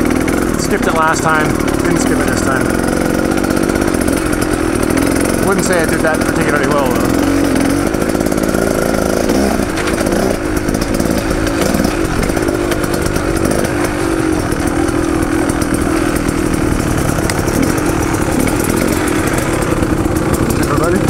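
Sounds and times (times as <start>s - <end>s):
bike clicks and rattles: 0.0s - 21.0s
dirt bike engine running: 0.0s - 21.0s.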